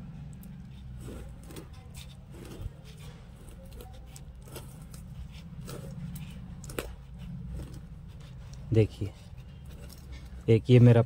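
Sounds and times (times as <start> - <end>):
fingers rustling on roots: 0.2 - 11.0.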